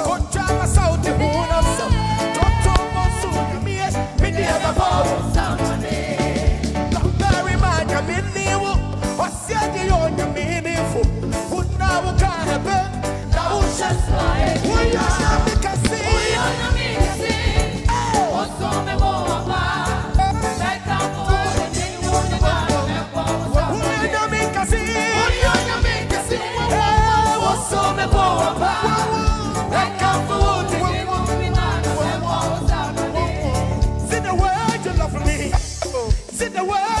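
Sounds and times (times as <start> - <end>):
band with heavy bass: 0.0 - 37.0
voices singing gospel: 0.0 - 37.0.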